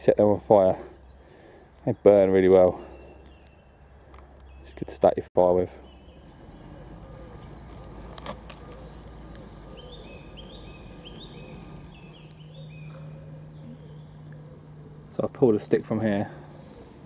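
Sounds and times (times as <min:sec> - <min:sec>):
bird singing rising notes: 0:01.9 - 0:17.0.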